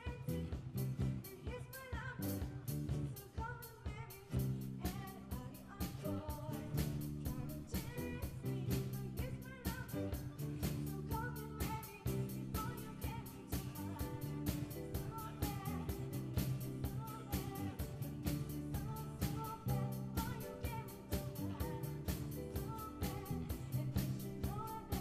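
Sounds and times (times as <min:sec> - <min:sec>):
person singing: 0:00.0 - 0:00.6, 0:01.2 - 0:25.0
bass and guitar chords: 0:00.0 - 0:01.4, 0:02.1 - 0:03.2, 0:04.3 - 0:25.0
drum kit beating: 0:00.0 - 0:25.0.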